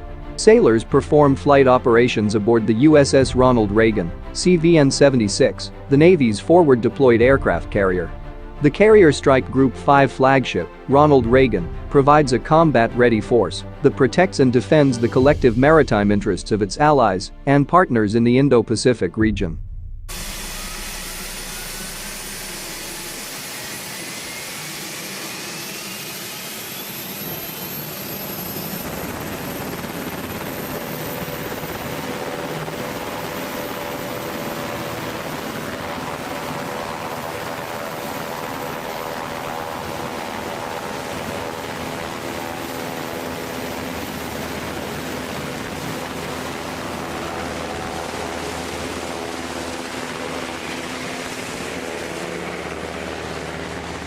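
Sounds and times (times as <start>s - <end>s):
jet turbine engines whining: 0.0s - 17.9s, 20.1s - 54.0s.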